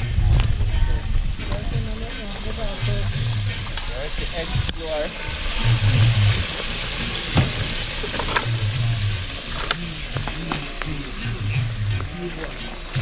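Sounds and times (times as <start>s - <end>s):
low booming bass: 0.0s - 13.0s
food frying in hot oil: 1.4s - 13.0s.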